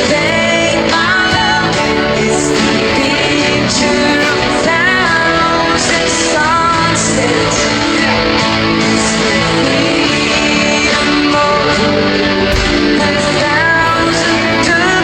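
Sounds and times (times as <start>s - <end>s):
pop song guitar backing: 0.0s - 15.0s.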